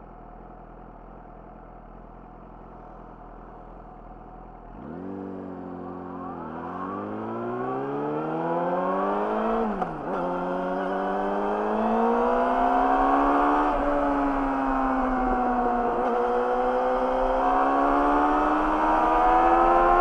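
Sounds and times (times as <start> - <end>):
motorcycle engine accelerating hard: 1.9 - 20.0.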